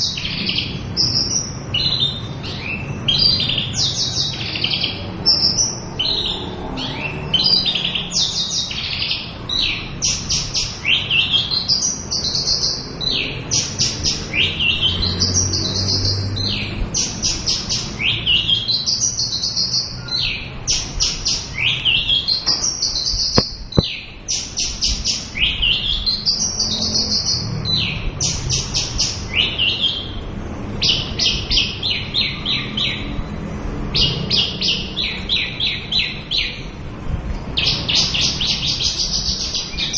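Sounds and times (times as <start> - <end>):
bird singing trills: 0.0 - 33.3, 33.9 - 36.8, 37.6 - 39.9.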